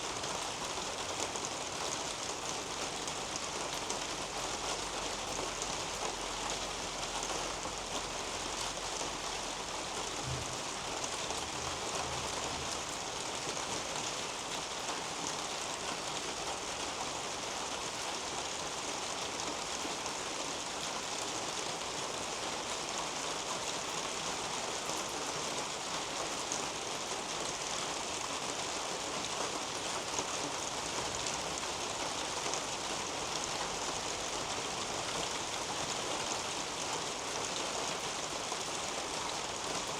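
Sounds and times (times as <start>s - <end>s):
rain on leaves and a roof: 0.0s - 39.9s.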